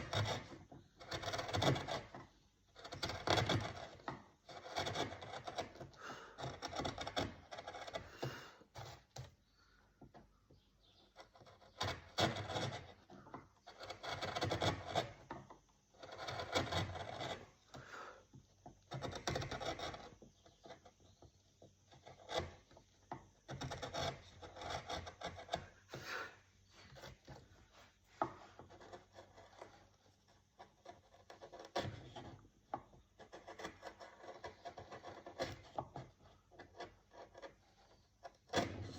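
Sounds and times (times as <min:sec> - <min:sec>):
hand tool rasping wood: 0:00.0 - 0:09.1, 0:11.0 - 0:38.9.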